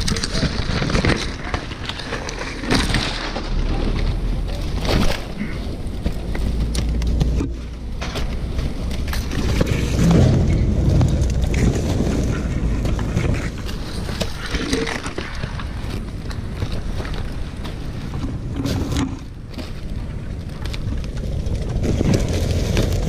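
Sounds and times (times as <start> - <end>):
dry palm husk crackling: 0.0 - 23.0
wind rumbling on microphone: 0.0 - 23.0.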